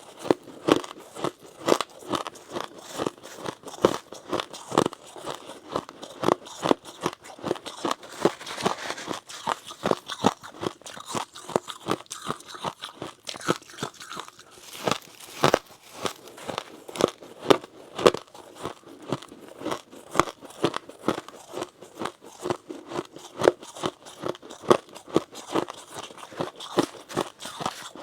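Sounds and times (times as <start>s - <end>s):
crisp chewing crunches: 0.0s - 28.0s.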